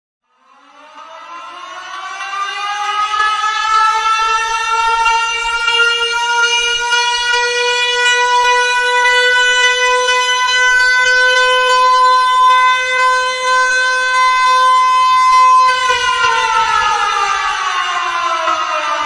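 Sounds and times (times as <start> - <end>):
warning siren steady tone: 0.2 - 19.0.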